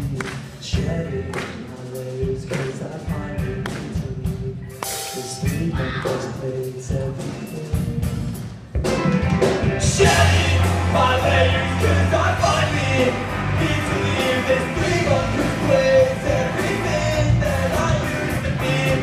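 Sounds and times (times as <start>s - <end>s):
punk rock band playing: 0.0s - 19.0s.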